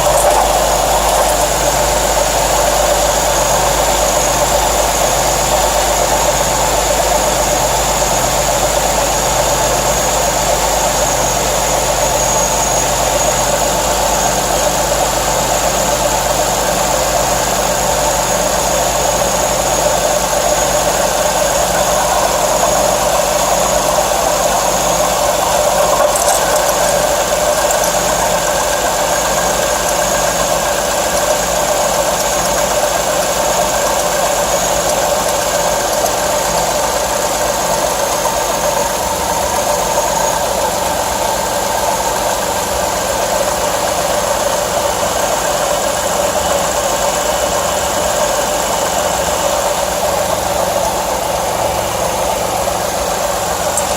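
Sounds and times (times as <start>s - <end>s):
car engine idling: 0.0s - 53.9s
high steady whine: 0.0s - 53.9s
mechanical engine noise: 0.0s - 53.9s.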